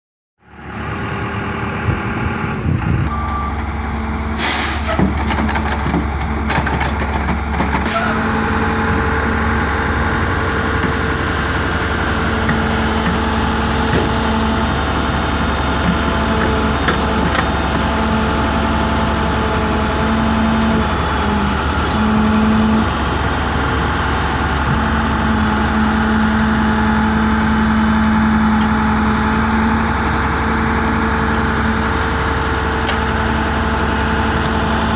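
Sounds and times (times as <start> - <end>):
heavy vehicle engine running: 0.4 - 34.9.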